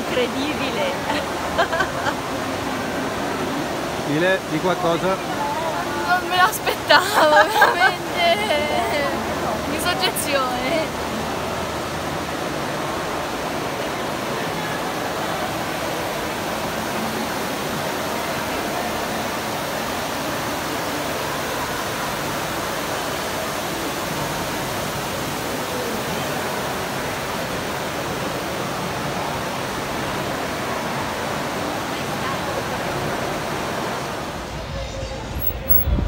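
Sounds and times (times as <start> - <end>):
fountain water splashing: 0.0 - 34.4.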